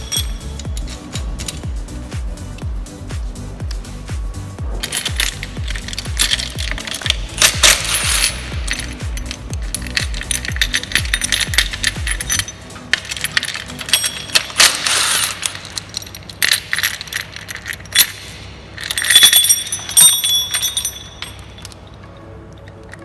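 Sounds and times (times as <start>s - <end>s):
metal tools clinking: 0.0s - 1.9s, 4.8s - 23.0s
faint background music: 0.0s - 23.0s.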